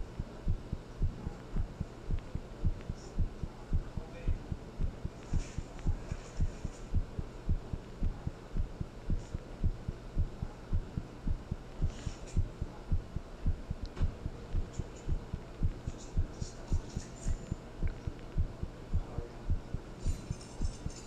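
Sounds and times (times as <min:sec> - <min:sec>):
faint low hum: 0:00.0 - 0:21.0
heartbeat thumps: 0:00.0 - 0:21.0.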